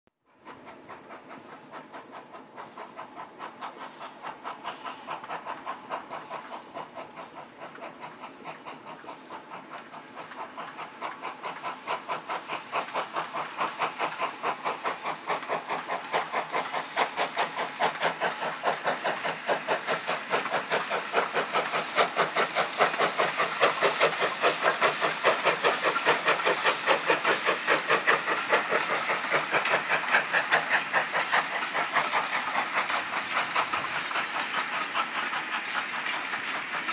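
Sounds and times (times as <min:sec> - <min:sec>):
steam locomotive chuffing: 0:00.3 - 0:36.9.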